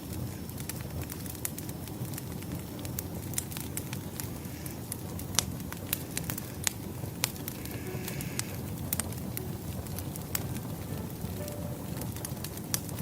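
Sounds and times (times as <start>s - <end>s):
firewood crackling: 0.0s - 13.0s
low rush of flames: 0.0s - 13.0s.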